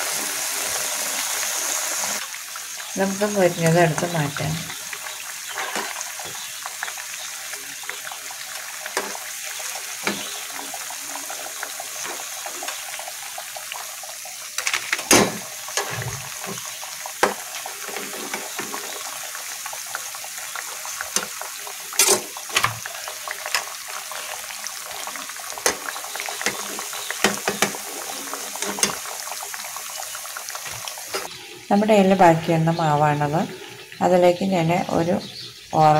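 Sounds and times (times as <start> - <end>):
fritters sizzling in hot oil: 0.0 - 35.9.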